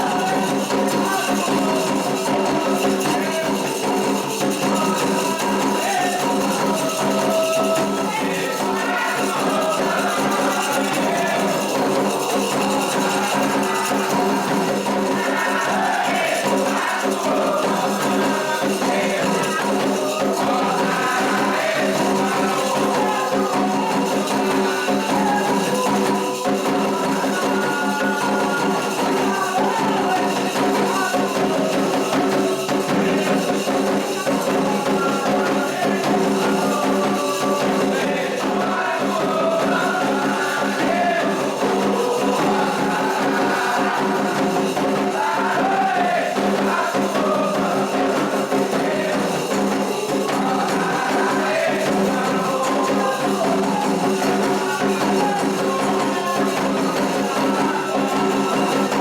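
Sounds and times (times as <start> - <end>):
rhythmic percussion: 0.0 - 59.0
voices singing together: 0.0 - 59.0.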